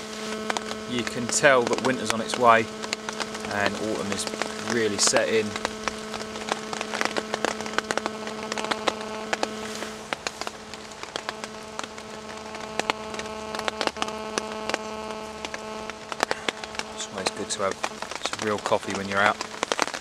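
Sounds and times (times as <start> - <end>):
faint hiss: 0.0 - 20.0
rain dripping on a tarp: 0.0 - 20.0
steady low hum: 0.0 - 20.0.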